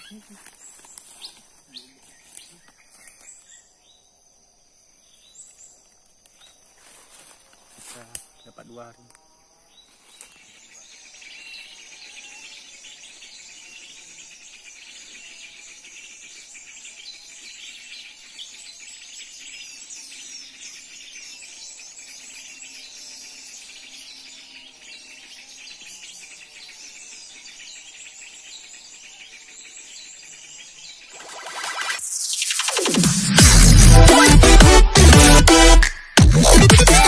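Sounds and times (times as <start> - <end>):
insect hum: 0.0 - 33.4
small birds chirping and twittering: 0.0 - 34.6.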